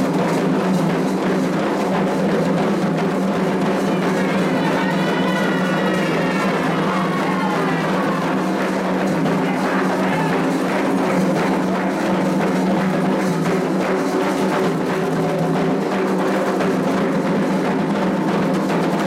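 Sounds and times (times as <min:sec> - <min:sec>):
hand drums: 0:00.0 - 0:19.0
struck percussion: 0:00.0 - 0:19.0.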